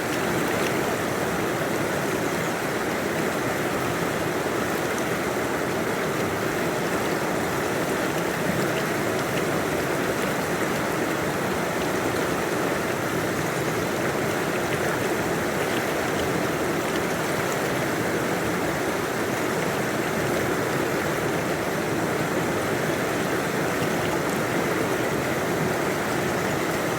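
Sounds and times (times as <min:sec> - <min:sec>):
stream rushing over rocks: 0:00.0 - 0:26.9.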